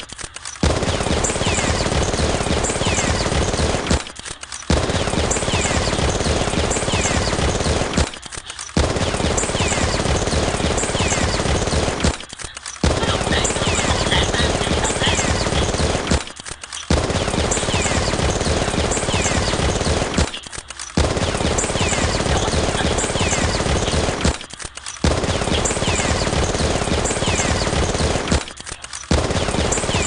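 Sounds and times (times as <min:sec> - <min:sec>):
automatic gunfire bursts: 0:00.6 - 0:30.0.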